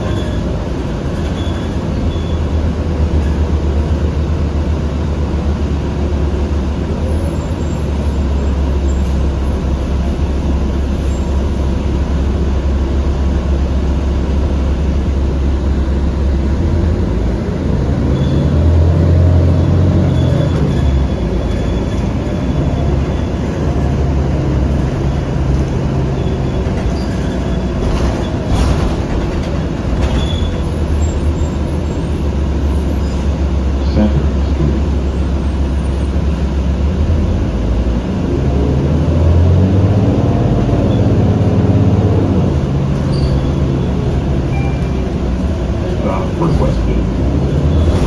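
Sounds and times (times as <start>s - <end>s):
bus engine drone: 0.0s - 48.0s.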